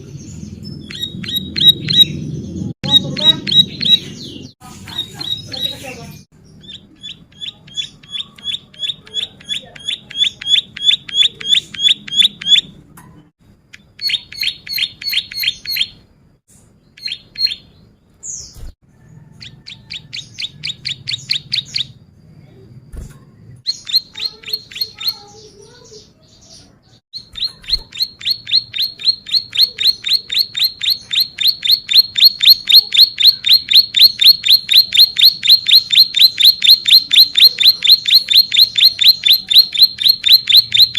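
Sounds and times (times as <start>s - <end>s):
bird chirping rapidly: 0.0s - 12.8s, 13.7s - 16.1s, 16.8s - 18.8s, 19.4s - 22.2s, 23.6s - 40.9s.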